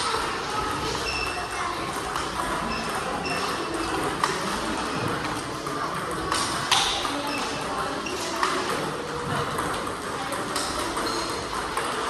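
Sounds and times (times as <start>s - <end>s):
ping pong balls clicking: 0.0s - 12.0s.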